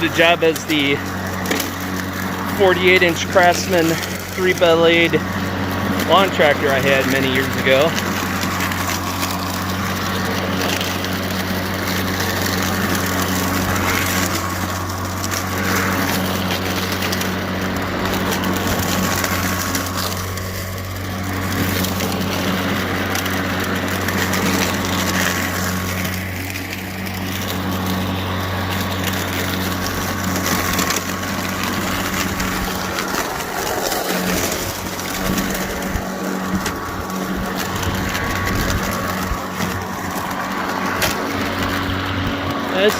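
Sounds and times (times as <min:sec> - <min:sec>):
electric mower hum: 0:00.0 - 0:42.9
leaves and grass being chopped: 0:00.0 - 0:42.9.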